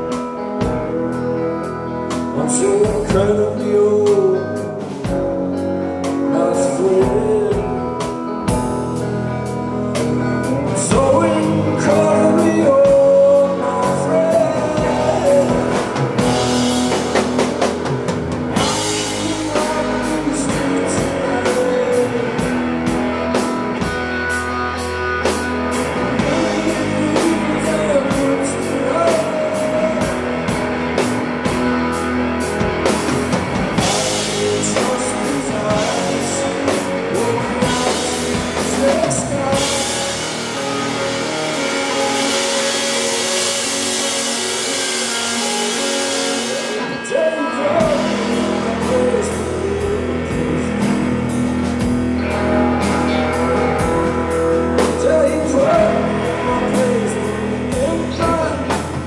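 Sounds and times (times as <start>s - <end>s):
guitar and bass: 0.0s - 59.0s
drum kit with cymbals: 2.0s - 59.0s.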